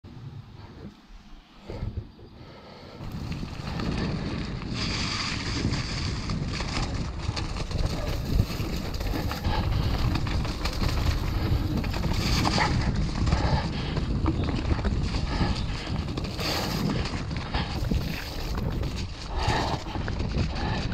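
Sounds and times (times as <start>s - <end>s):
wind buffeting microphone: 0.1s - 20.9s
bike knocks and rattles: 3.0s - 20.9s.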